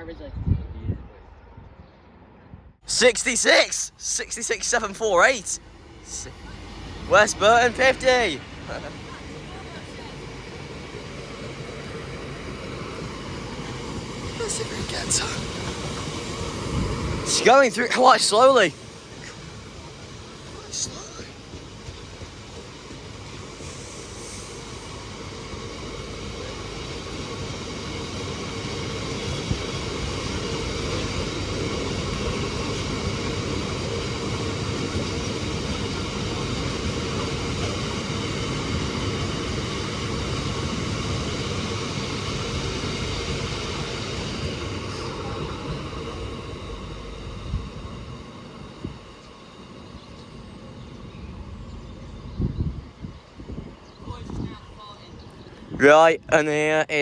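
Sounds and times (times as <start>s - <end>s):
freight train rolling: 0.0s - 57.0s.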